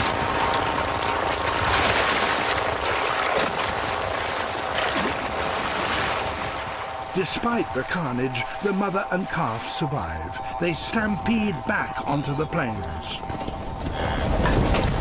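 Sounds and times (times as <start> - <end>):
river water splashing: 0.0 - 15.0.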